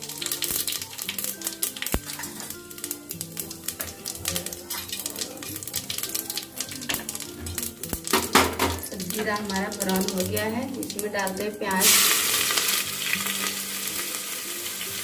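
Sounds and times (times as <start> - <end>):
background music: 0.0 - 15.0
seeds sizzling and popping in oil: 0.0 - 15.0.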